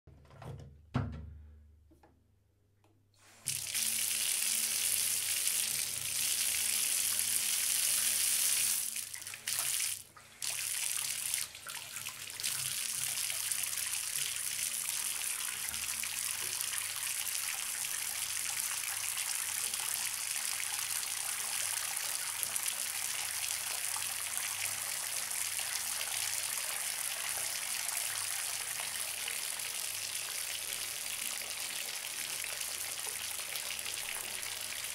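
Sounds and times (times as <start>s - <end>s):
tap water filling bathtub: 3.4s - 34.9s.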